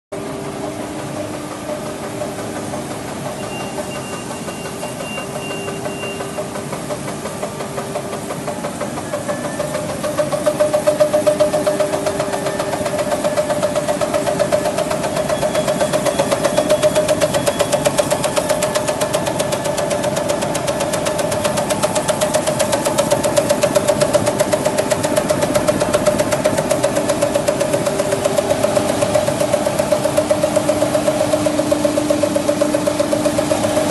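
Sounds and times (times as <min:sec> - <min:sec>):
machine humming and pulsing: 0:00.1 - 0:33.9.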